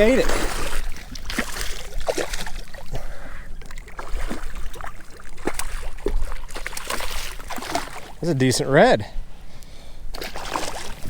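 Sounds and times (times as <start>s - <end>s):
water splashing around a kayak: 0.0s - 9.0s, 10.0s - 11.0s.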